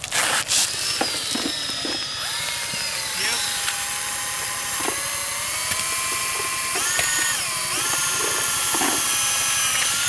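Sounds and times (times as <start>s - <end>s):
power drill motor whining: 0.1s - 10.0s.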